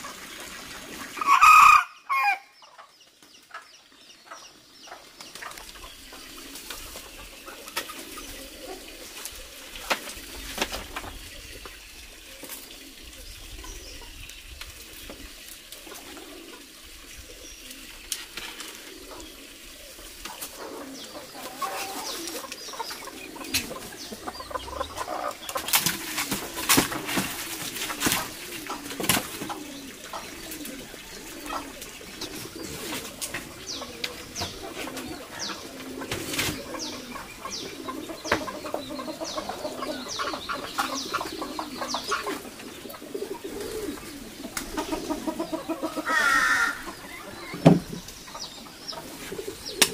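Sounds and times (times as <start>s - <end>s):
bird cooing calls: 4.5s - 49.9s.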